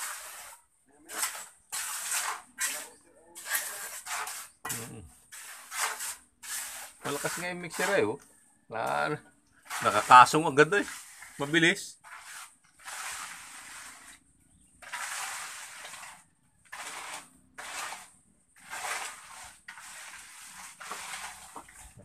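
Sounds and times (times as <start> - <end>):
trowel scraping wet concrete: 0.0 - 22.0.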